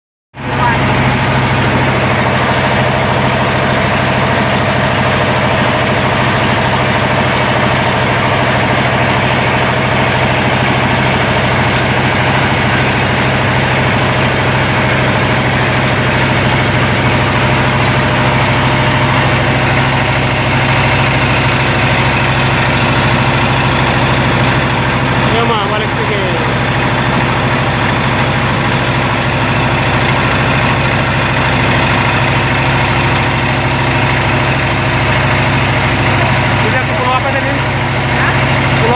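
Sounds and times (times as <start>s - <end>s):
motorboat engine running: 0.3s - 38.9s.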